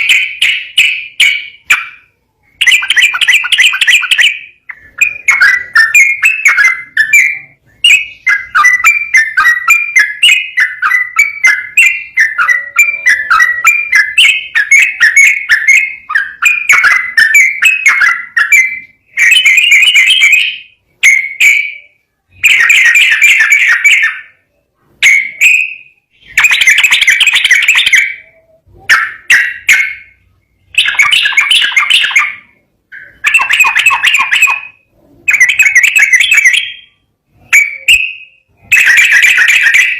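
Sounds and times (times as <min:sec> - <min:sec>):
bird singing bubbling notes: 0:00.0 - 0:24.4, 0:25.0 - 0:39.9.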